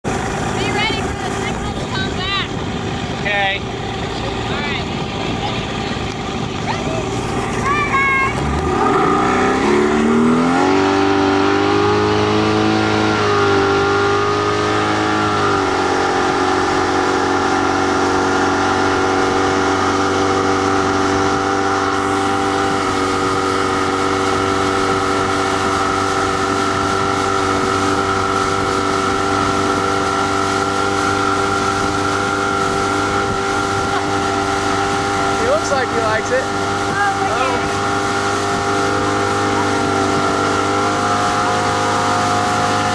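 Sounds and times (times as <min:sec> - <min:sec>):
motorboat engine: 0:00.0 - 0:42.9.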